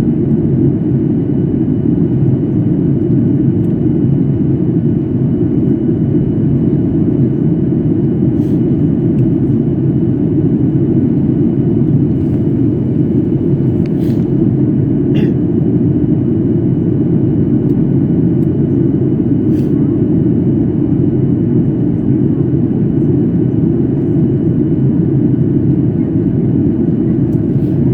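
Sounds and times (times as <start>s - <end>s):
airliner engine and airflow rumble: 0.0s - 27.9s.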